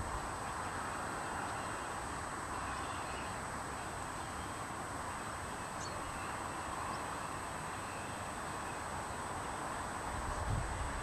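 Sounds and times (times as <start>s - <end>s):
faint high-pitched whine: 0.0s - 11.0s
outdoor background hiss: 0.0s - 11.0s.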